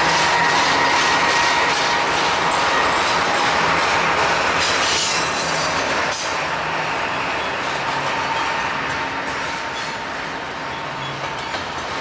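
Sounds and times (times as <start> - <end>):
steel wheels on rail: 0.0 - 12.0.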